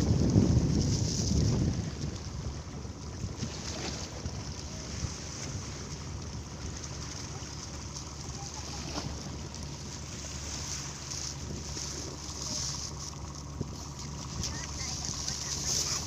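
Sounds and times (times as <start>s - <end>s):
steady low hum: 0.0s - 16.0s
waves at sea: 0.0s - 16.0s
wind: 0.0s - 16.0s
wind buffeting microphone: 0.0s - 16.0s.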